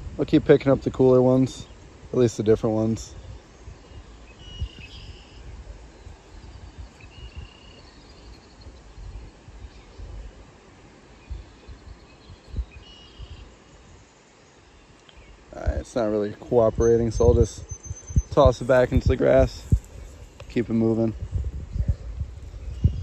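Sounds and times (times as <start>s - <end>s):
small birds chirping: 0.8s - 23.0s.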